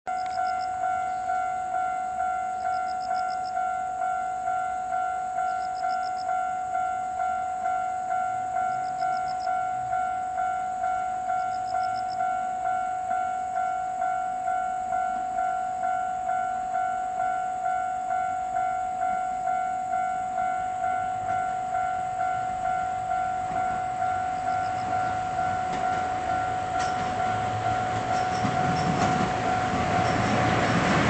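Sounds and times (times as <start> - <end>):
level crossing alarm dinging: 0.1 - 31.0.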